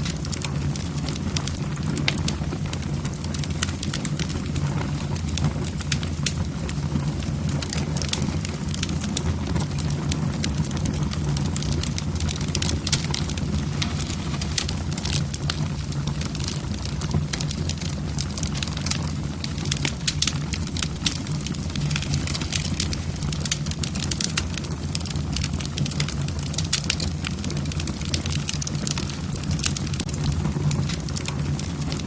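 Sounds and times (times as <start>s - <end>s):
logs crackling in fireplace: 0.0s - 32.0s.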